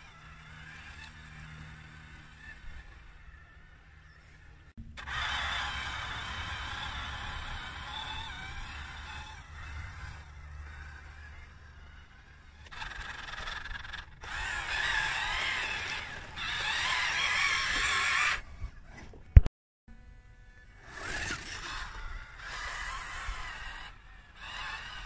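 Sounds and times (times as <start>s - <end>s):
electric motor and gearbox whine: 0.0s - 25.0s.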